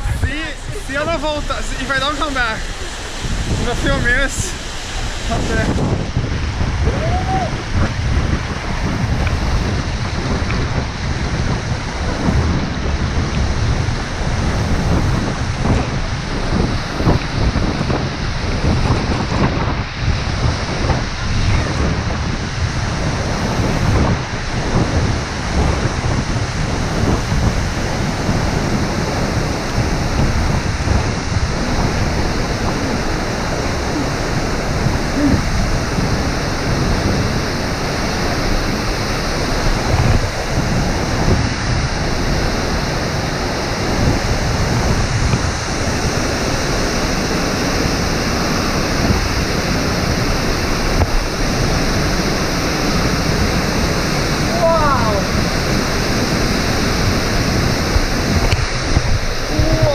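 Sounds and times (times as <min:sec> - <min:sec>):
waterfall roaring: 0:00.0 - 0:59.9
wind buffeting microphone: 0:00.0 - 0:59.9.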